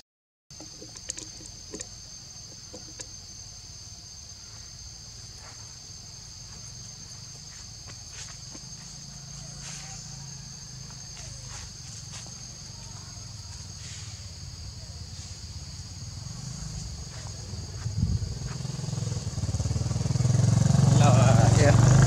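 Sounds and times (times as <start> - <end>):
insects droning: 0.5 - 22.0.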